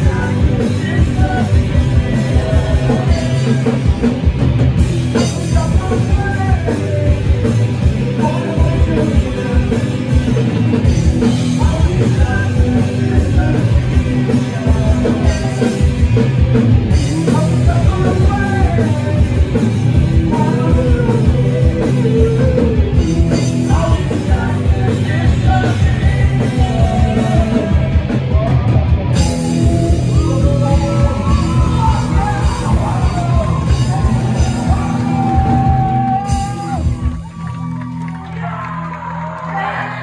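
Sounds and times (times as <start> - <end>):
electric guitars and bass: 0.0 - 40.0.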